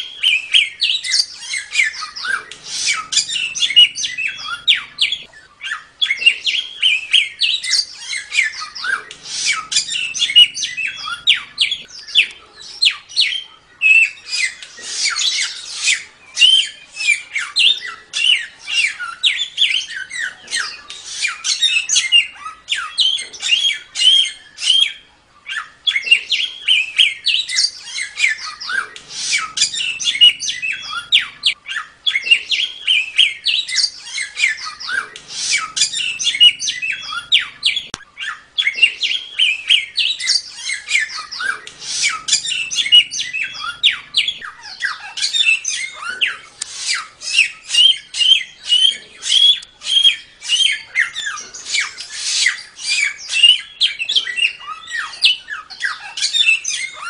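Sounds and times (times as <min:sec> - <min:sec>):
songbird rapid chattering song: 0:00.0 - 0:57.0.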